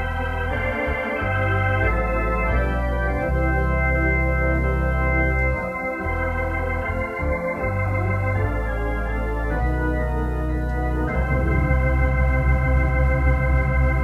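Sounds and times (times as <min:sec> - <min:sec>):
organ playing chords: 0:00.0 - 0:14.0.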